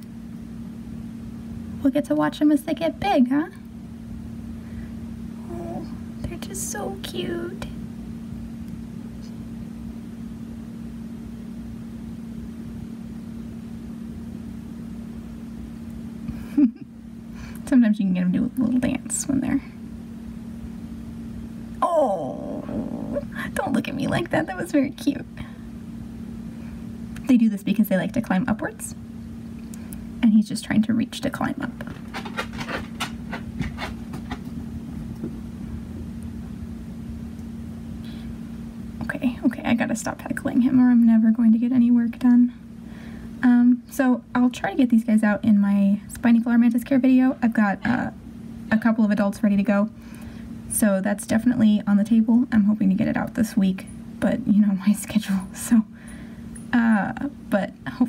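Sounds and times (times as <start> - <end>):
low electrical hum: 0.0 - 58.0
low rumble and hiss: 0.0 - 58.0.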